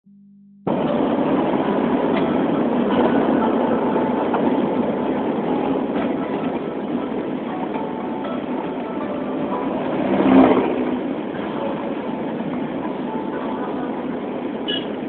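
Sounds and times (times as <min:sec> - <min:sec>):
vehicle engine and road noise: 0:00.7 - 0:15.0.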